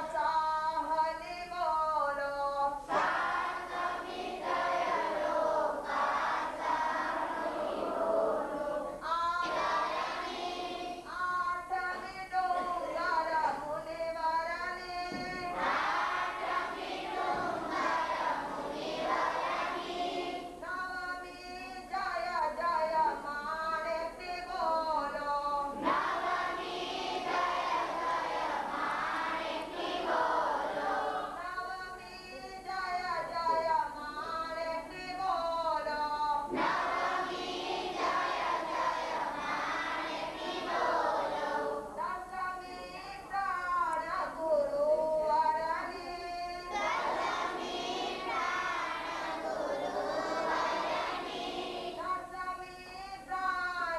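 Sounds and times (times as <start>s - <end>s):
children and women singing prayer: 0.0s - 53.9s.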